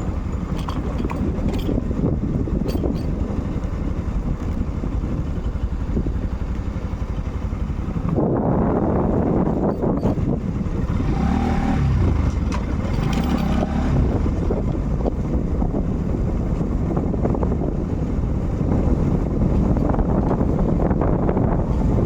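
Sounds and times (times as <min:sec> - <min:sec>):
motorcycle engine running: 0:00.0 - 0:22.0
wind on microphone: 0:00.0 - 0:22.0.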